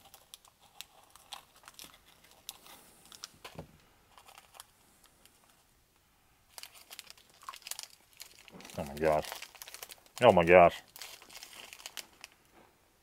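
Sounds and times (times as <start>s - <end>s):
plastic wrapper crinkling: 0.0s - 5.6s, 6.5s - 12.5s.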